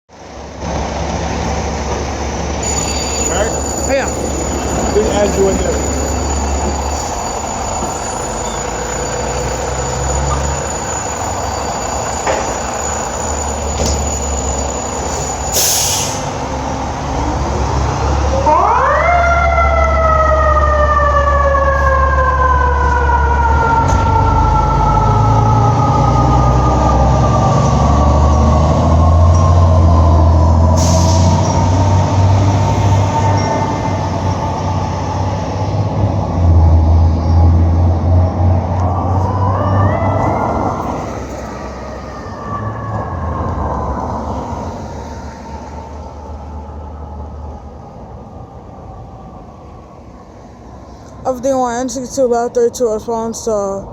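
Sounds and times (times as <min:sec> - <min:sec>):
diesel engines rumbling: 0:00.1 - 0:53.9.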